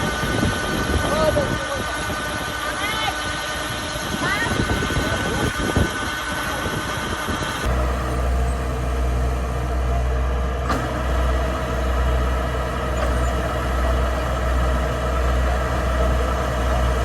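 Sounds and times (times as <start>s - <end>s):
combine harvester engine drone: 0.0s - 17.0s.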